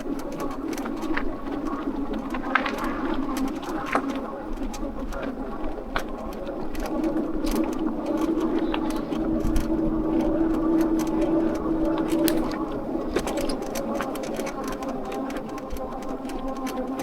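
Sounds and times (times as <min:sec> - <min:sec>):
bike rattling and clicking: 0:00.0 - 0:17.0
electric bike motor whining: 0:00.0 - 0:17.0.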